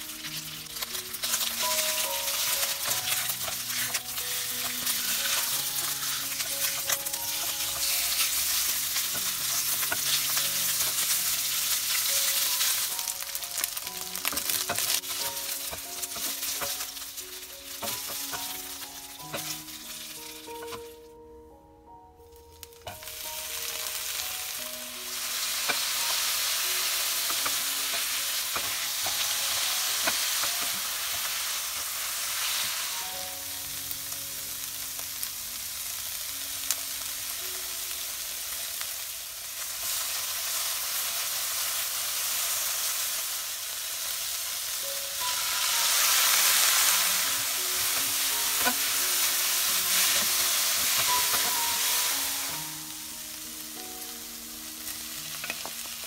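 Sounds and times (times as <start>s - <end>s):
food sizzling in hot oil: 0.0s - 21.1s, 22.4s - 56.0s.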